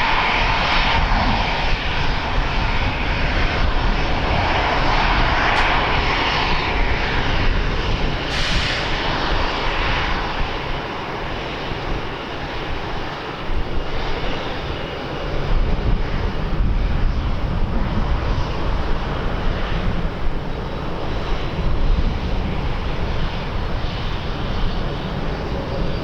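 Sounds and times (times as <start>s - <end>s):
aircraft engines rushing: 0.0s - 26.0s
wind buffeting microphone: 0.0s - 26.0s.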